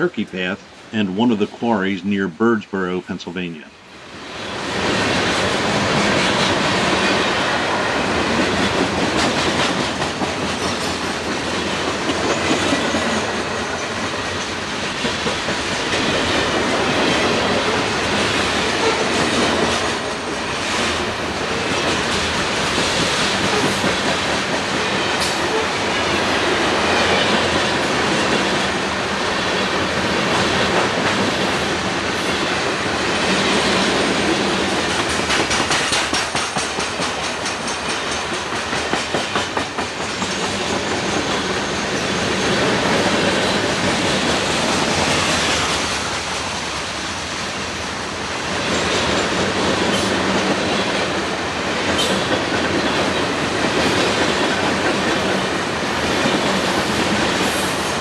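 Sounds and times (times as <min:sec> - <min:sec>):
train wheels rumbling on rail: 0:03.6 - 0:58.0
wheels clickety-clack on rail joints: 0:04.5 - 0:47.5, 0:48.1 - 0:58.0.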